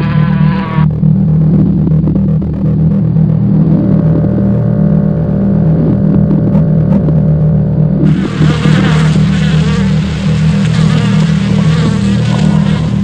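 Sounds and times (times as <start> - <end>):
dense wavering high layer: 0.0 - 13.0
loud low drone: 0.0 - 13.0.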